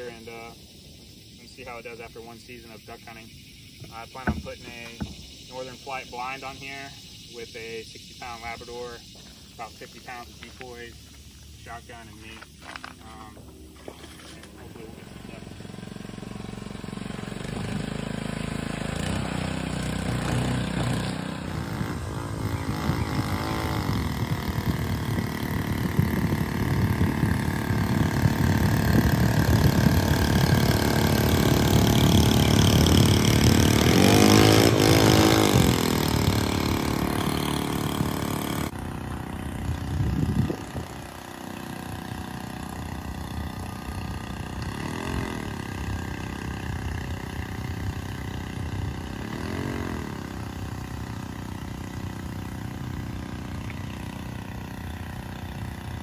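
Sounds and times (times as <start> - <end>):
small boat engine running: 8.3 - 56.0.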